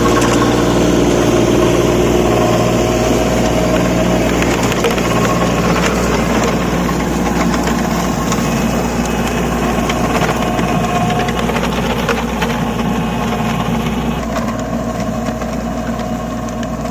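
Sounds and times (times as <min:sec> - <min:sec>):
rattle of short clicks: 0:00.0 - 0:16.9
tractor diesel engine running: 0:00.0 - 0:16.9.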